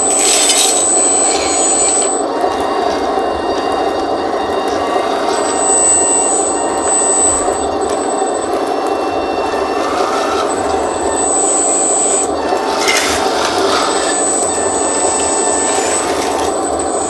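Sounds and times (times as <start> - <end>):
mechanical whirr of motors: 0.0 - 17.0
thin high motor whine: 0.0 - 17.0.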